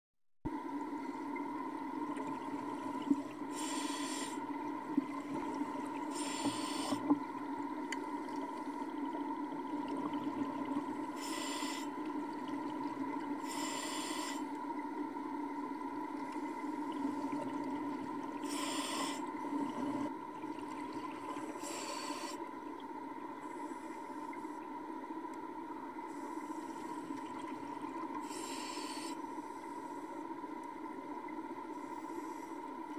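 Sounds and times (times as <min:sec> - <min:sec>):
steady underwater hum: 0:00.5 - 0:32.9.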